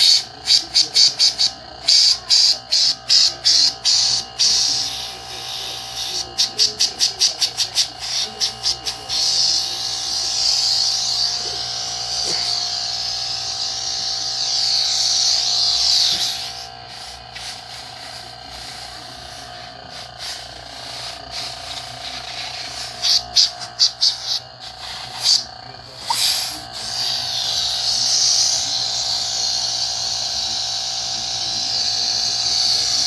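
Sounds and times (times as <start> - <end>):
compressed air hissing: 0.0 - 33.0
compressor humming: 0.0 - 33.0
rapid high pulsing: 0.0 - 33.0.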